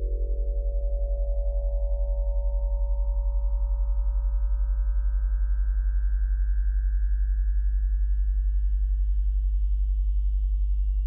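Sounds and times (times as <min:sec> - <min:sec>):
low pulsing sine hum: 0:00.0 - 0:11.0.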